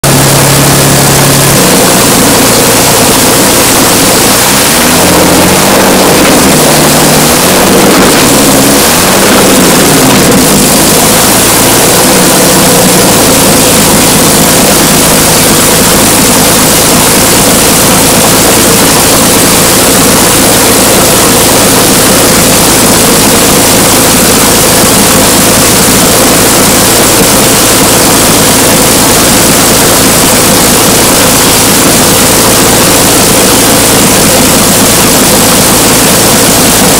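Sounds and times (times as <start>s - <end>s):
aero engine running loud: 0.0s - 36.9s.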